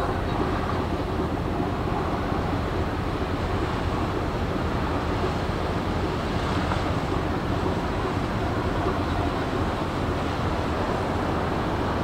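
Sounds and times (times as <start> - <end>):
ship engines rumbling: 0.0 - 12.0.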